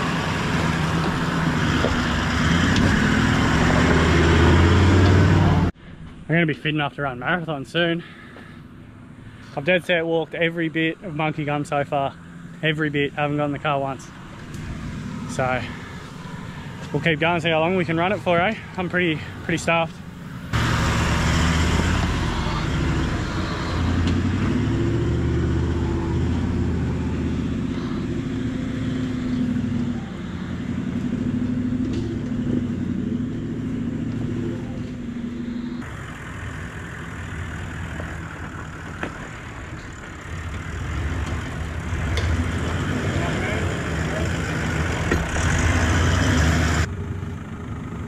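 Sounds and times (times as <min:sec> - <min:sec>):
off-road vehicle engine revving: 0:00.0 - 0:05.8, 0:09.5 - 0:47.2.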